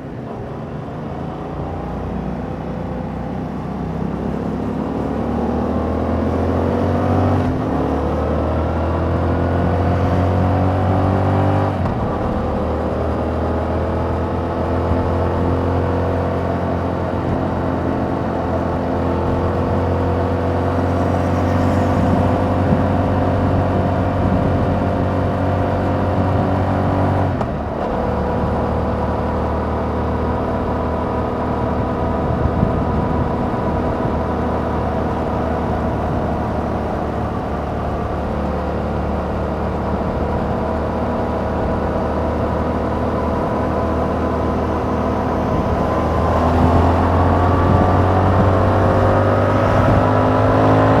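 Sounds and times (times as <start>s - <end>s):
motorcycle engine running: 3.0s - 51.0s.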